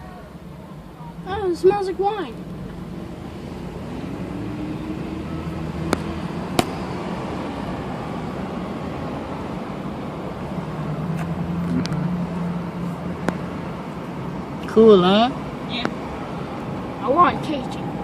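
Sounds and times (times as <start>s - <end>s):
low outdoor rumble: 0.0s - 18.0s
drone propellers humming: 0.2s - 18.0s.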